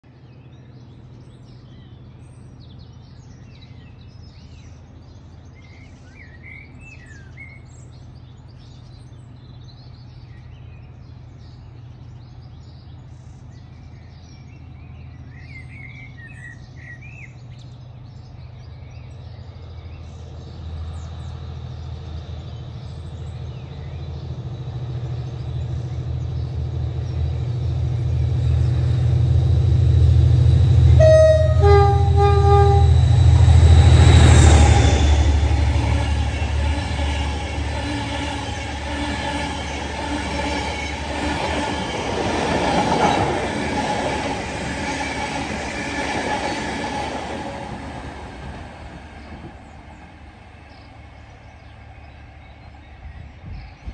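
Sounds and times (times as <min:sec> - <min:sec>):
diesel locomotive engine drone: 0:00.0 - 0:53.9.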